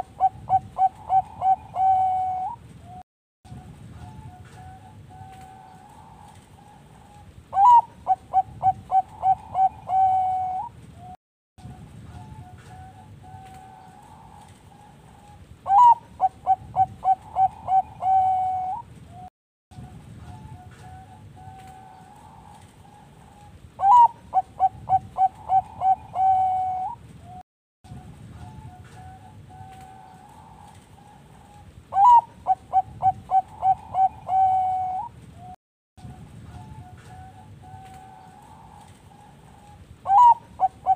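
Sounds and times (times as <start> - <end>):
faint doves cooing: 0.0 - 3.0, 4.0 - 11.2, 12.2 - 19.3, 19.9 - 27.4, 28.0 - 35.6, 36.4 - 40.9
dove cooing song: 0.0 - 40.9.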